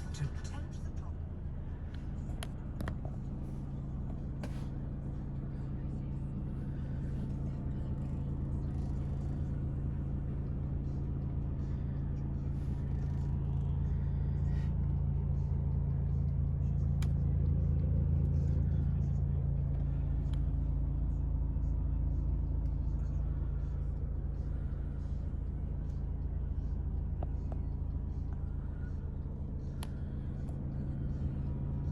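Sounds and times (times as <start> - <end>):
diesel truck engine idling: 0.0 - 31.9.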